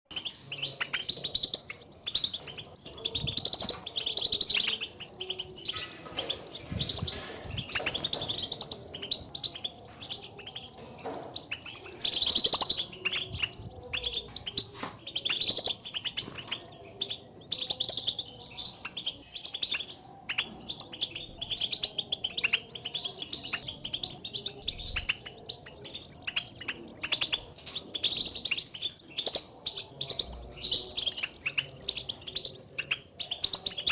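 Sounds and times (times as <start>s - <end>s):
goldfinch chirping calls: 0.1s - 33.9s.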